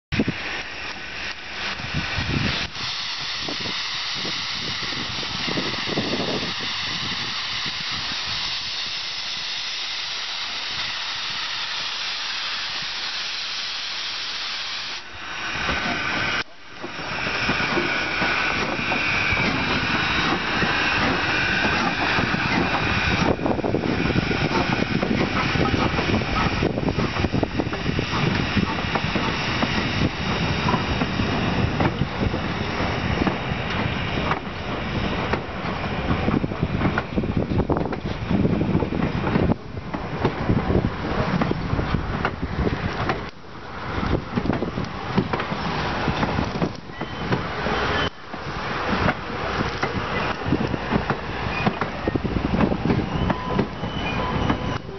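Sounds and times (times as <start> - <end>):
steam locomotive hissing: 0.1 - 54.9
train wheels rumbling and clattering: 0.1 - 54.9.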